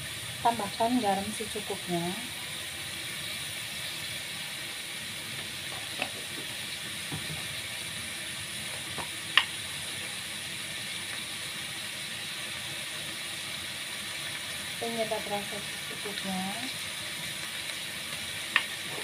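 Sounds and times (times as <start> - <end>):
stir-fry sizzling in a pan: 0.0 - 19.0.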